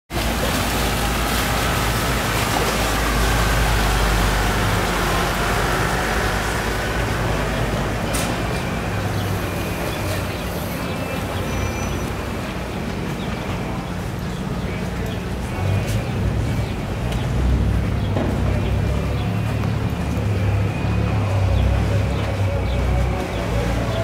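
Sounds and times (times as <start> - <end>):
motorboat engines humming: 0.1 - 24.0
water wash: 0.1 - 24.0.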